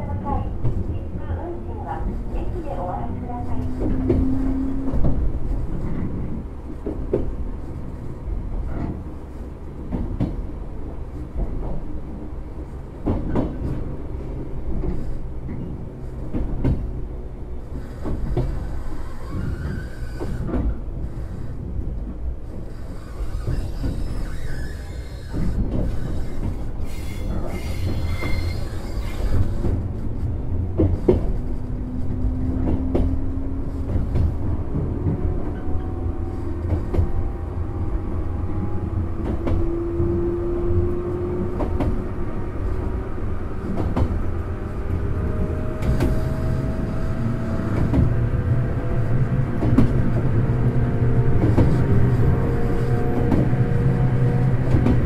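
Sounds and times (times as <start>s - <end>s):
rail joint clicks: 0.0s - 55.0s
train wheel rumble: 0.0s - 55.0s.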